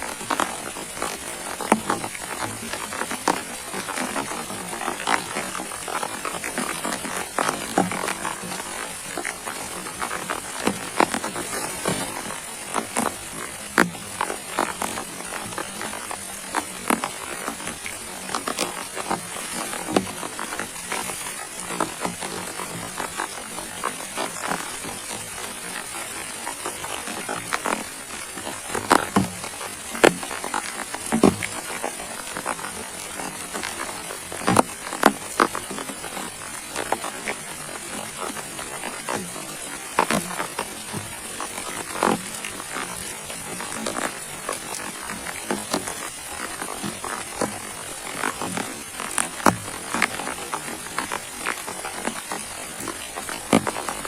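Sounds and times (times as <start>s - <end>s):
rain hissing: 0.0s - 54.0s
raindrops tapping: 0.0s - 54.0s.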